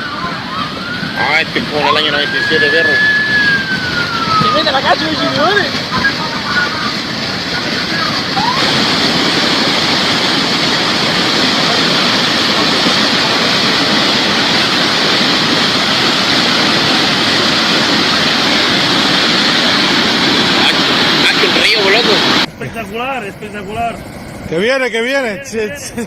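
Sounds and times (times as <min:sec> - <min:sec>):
floodwater rushing: 0:00.0 - 0:25.7.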